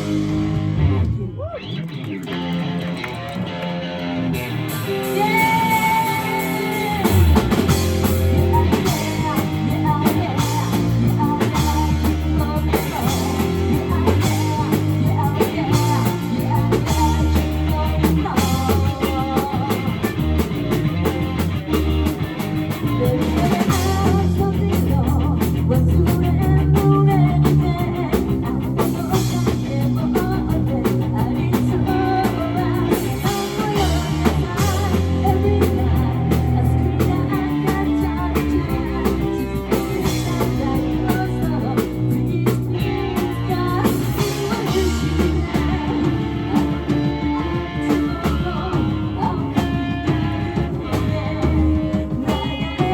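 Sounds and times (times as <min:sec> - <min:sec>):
live rock band playing: 0:00.0 - 0:52.9
lead vocal melody: 0:03.8 - 0:52.9.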